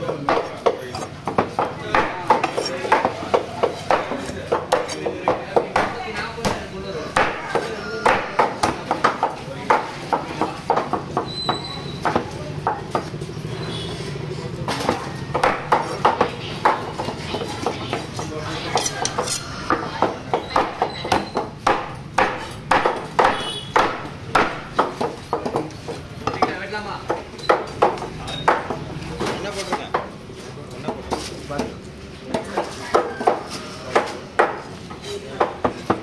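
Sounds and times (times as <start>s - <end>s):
knife chopping fish on wood: 0.0s - 11.3s, 12.0s - 13.2s, 14.6s - 28.9s, 30.9s - 34.7s.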